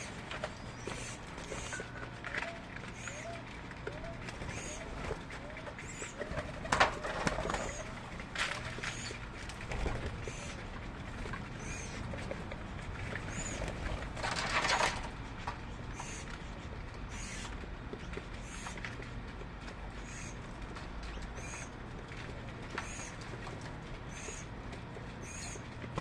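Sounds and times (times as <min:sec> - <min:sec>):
birds chirping: 0:00.0 - 0:23.4, 0:24.0 - 0:25.9.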